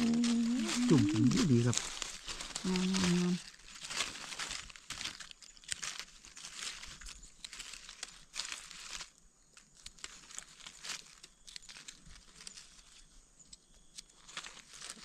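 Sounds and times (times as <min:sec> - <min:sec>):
dry leaves rustling and crinkling: 0:00.0 - 0:15.0.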